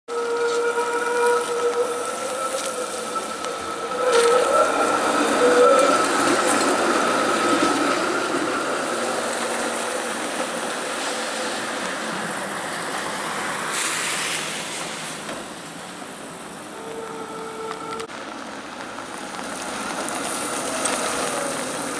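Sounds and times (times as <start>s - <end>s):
streetcar wheels squealing: 0.1s - 18.1s, 19.2s - 21.9s
streetcar rumble: 0.1s - 21.9s.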